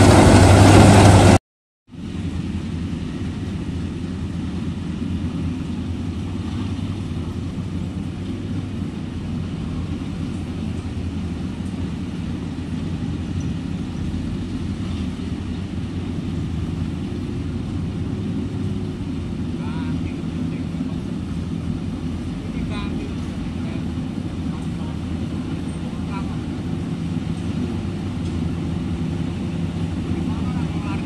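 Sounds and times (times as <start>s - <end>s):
combine harvester engine running: 0.0s - 31.0s.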